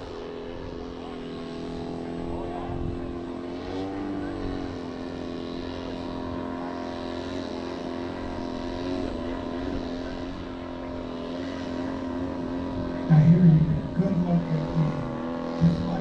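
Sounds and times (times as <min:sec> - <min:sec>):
model aircraft motor droning: 0:00.0 - 0:16.0.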